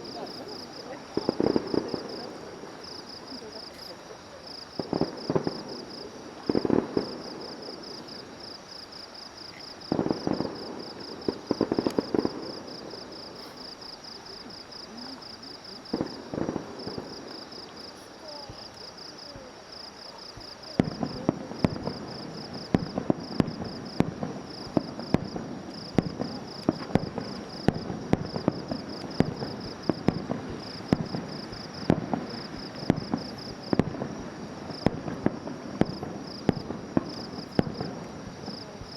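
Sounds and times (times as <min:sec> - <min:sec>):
rapid crackling pops: 0:00.0 - 0:04.0, 0:04.6 - 0:08.2, 0:09.4 - 0:18.9, 0:20.4 - 0:38.9
fireworks booms and bangs: 0:00.0 - 0:38.9.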